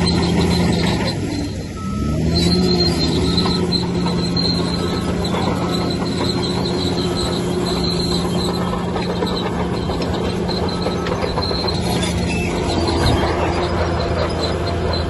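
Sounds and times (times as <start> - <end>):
crawler tracks squealing and clanking: 0.0 - 15.0
diesel engine drone: 0.0 - 15.0.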